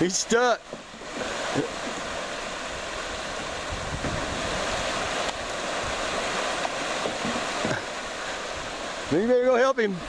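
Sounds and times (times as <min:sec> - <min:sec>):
river water rushing over rapids: 0:00.0 - 0:10.0.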